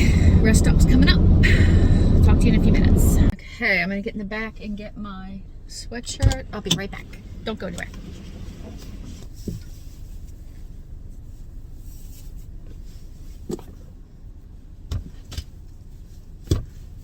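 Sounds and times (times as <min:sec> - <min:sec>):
car rumbling: 0:00.0 - 0:17.0.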